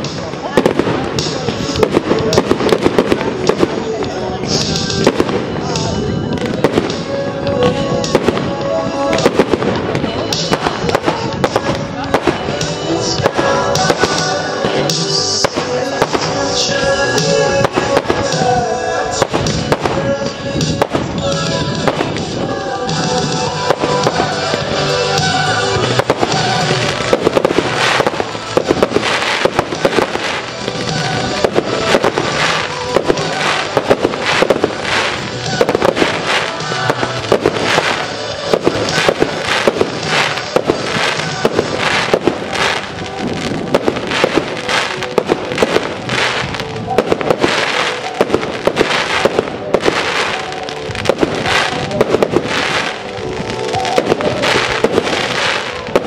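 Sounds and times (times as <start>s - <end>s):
fireworks bursting with bangs: 0.0s - 56.0s
music soundtrack: 0.0s - 56.0s.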